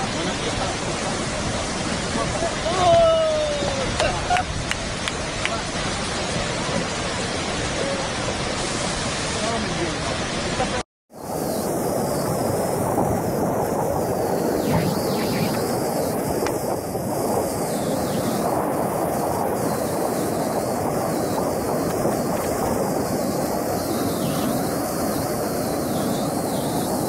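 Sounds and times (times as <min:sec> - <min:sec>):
flood water rushing: 0:00.0 - 0:27.0.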